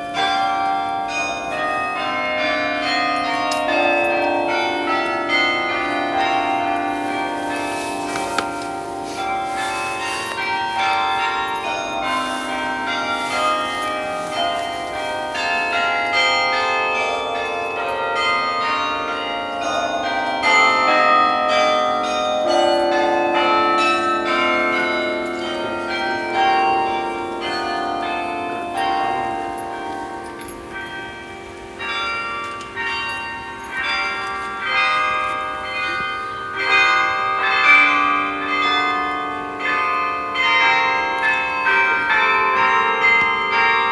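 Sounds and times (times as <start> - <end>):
carillon bells playing melody: 0.0 - 43.9.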